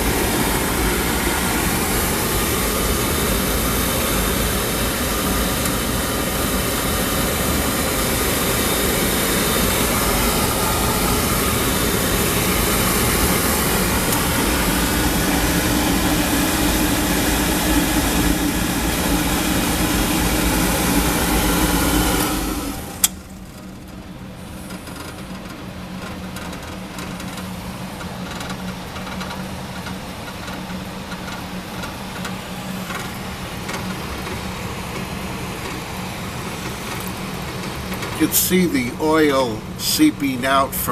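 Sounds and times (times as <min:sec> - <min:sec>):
oil furnace burner roaring: 0:00.0 - 0:40.9.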